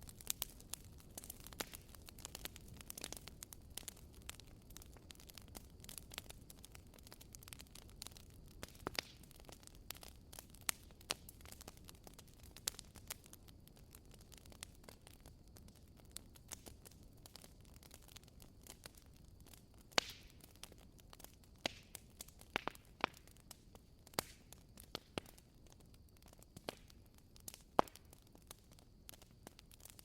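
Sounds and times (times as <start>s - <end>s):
firewood popping: 0.0s - 30.0s
low steady hiss: 0.0s - 30.0s
wood fire crackling: 0.0s - 30.0s.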